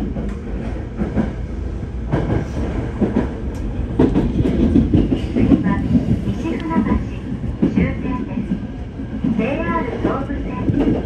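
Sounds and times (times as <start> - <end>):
train rumble inside car: 0.0 - 11.0.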